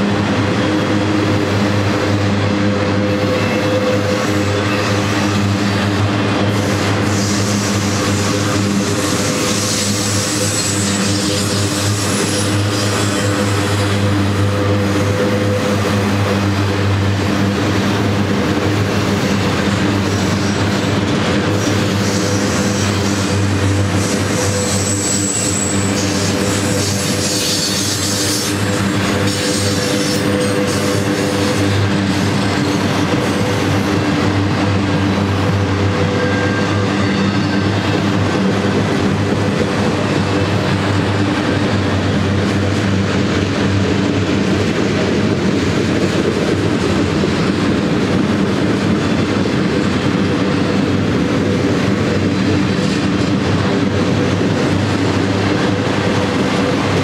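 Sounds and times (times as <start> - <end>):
train wheels rumbling and clattering: 0.0 - 57.0.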